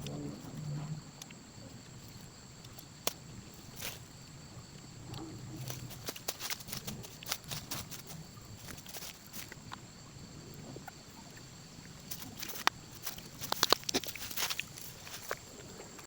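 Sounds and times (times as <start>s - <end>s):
small clicks and crackles: 0.0s - 16.0s.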